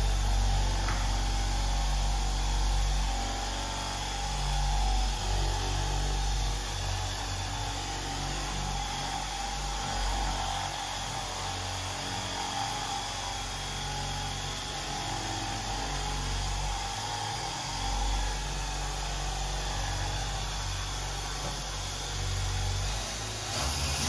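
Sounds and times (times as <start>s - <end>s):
polisher motor whine: 0.0s - 24.0s.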